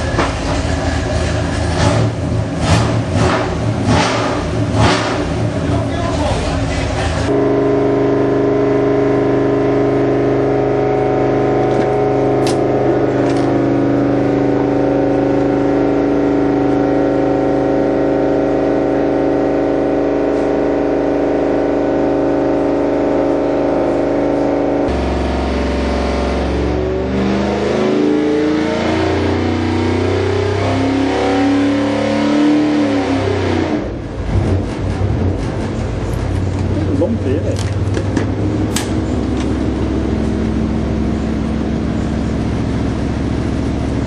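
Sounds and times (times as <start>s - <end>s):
engine running on a dyno: 0.0s - 44.0s.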